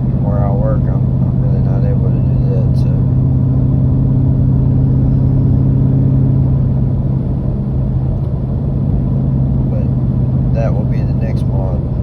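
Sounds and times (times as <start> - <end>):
exhaust drone inside car: 0.0 - 12.0.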